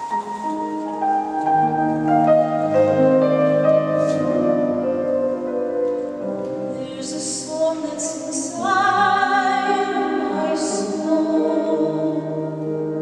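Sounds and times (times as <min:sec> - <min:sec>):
grand piano chords: 0:00.0 - 0:13.0.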